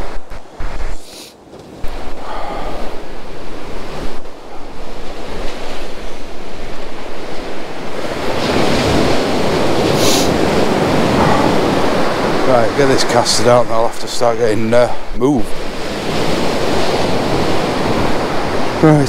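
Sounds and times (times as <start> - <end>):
waves breaking on beach: 0.0 - 19.0
wind buffeting microphone: 0.0 - 19.0.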